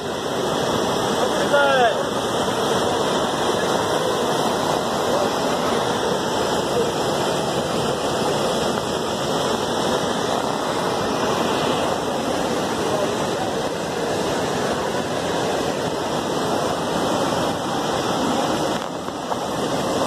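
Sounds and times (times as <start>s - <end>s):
waterfall rushing over rock: 0.0s - 20.0s.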